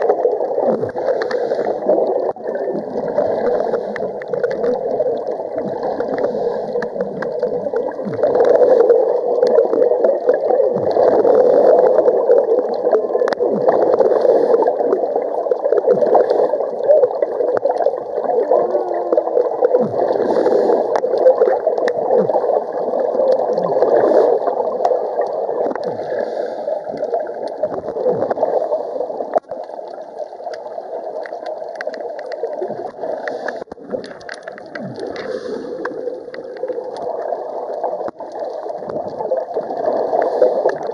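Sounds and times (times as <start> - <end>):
underwater bubbling and gurgling: 0.0 - 40.9
underwater water wash: 0.0 - 40.9.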